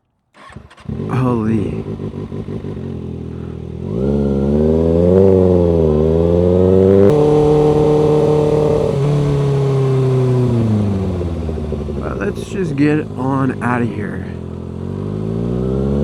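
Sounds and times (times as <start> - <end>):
motorcycle engine pulling away: 0.4 - 16.0.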